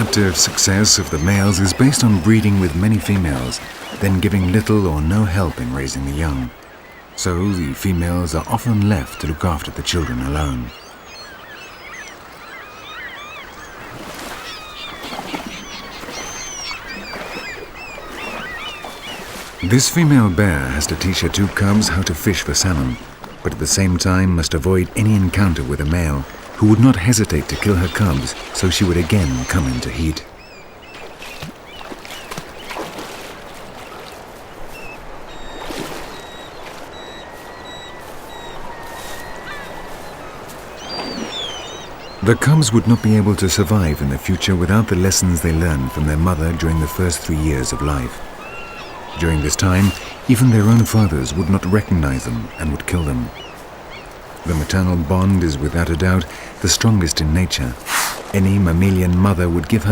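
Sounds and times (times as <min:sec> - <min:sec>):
river rushing: 0:00.0 - 0:10.6, 0:13.6 - 0:59.9
many birds calling: 0:00.0 - 0:59.9.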